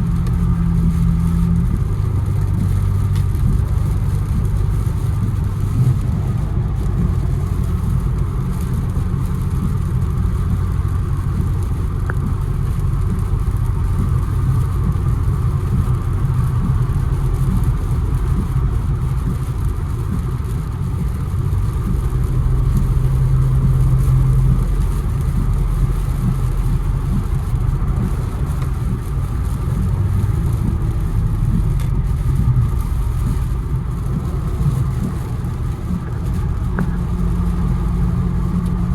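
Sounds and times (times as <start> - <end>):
car engine drone: 0.0 - 38.9
road noise: 0.0 - 38.9.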